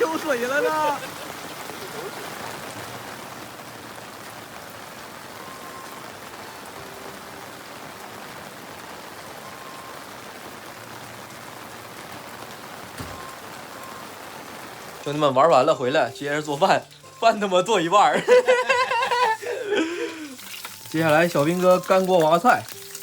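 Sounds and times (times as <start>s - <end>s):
heavy rain pattering: 0.0s - 23.0s.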